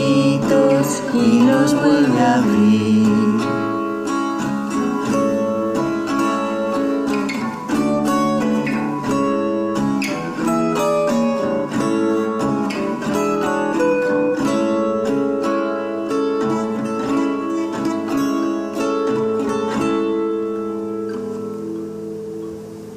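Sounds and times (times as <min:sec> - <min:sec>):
acoustic guitar plucked notes: 0:00.0 - 0:22.9.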